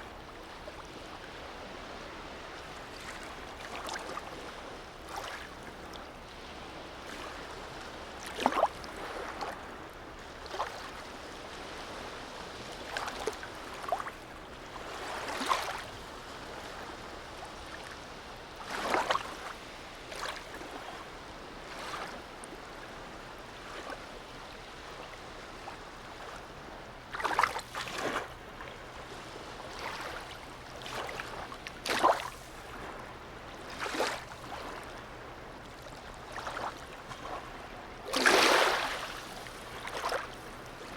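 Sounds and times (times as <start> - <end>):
waves lapping and splashing: 0.0 - 40.9.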